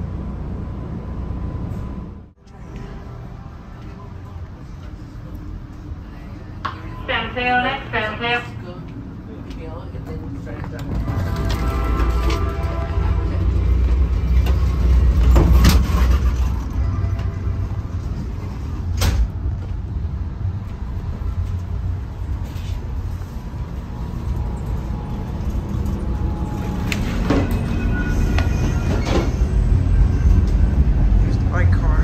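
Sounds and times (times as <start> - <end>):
train car rumble: 0.0 - 32.0.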